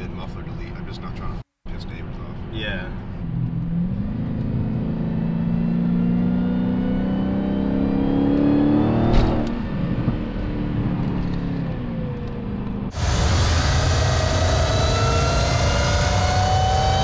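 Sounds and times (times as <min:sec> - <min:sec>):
car engine accelerating: 0:03.1 - 0:17.0
supercharger whine: 0:03.2 - 0:17.0.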